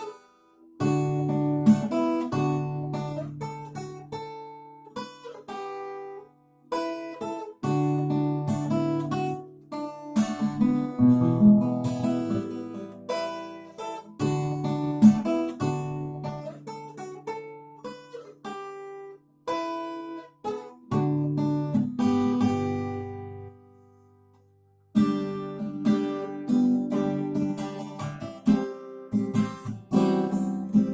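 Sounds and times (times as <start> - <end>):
fingerstyle acoustic guitar: 0.0 - 30.9.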